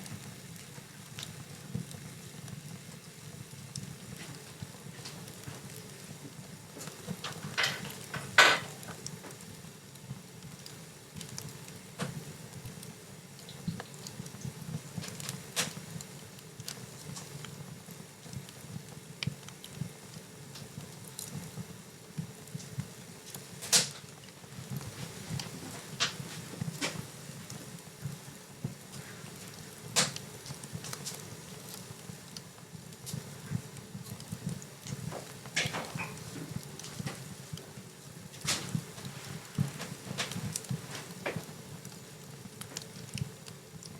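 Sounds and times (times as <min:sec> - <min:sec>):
low rumble of flames: 0:00.0 - 0:43.9
wood fire crackling: 0:00.0 - 0:43.9.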